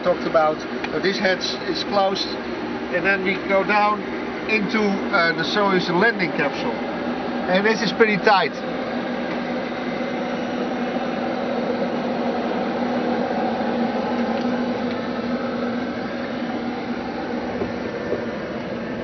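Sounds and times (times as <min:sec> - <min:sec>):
ventilation fans whirring: 0:00.0 - 0:19.0.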